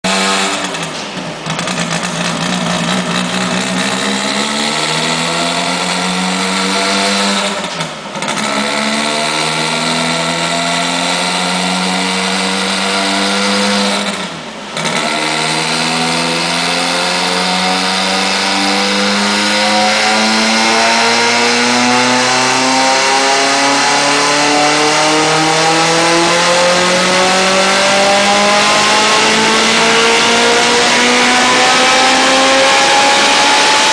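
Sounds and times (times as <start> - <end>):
engine at full throttle: 0.0 - 33.9.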